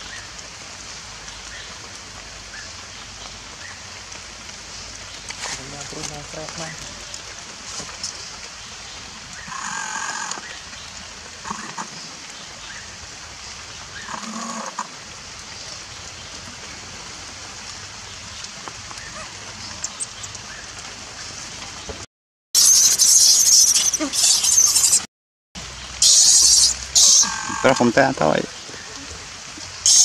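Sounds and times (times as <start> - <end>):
steady rain-like hiss: 0.0 - 22.1, 23.3 - 30.0.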